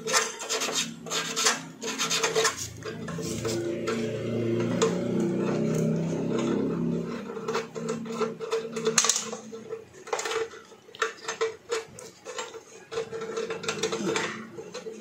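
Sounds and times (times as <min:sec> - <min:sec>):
metal contacts being scraped: 0:00.0 - 0:15.0.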